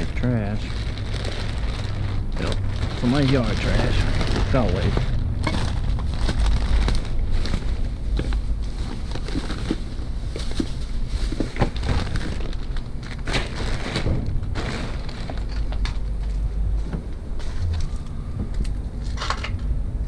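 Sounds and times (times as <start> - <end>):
trash bag crinkling: 0.0 - 16.5
steady low rumble: 0.0 - 20.0.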